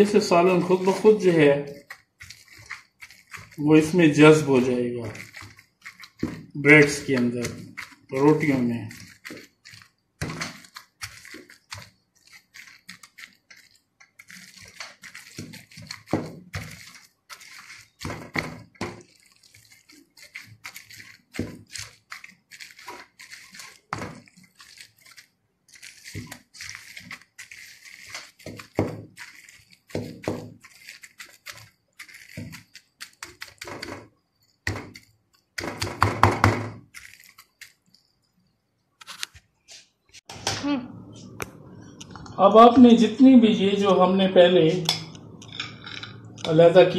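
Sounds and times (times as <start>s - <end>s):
wooden spoon mixing wet bread: 0.0s - 40.3s, 41.1s - 46.9s.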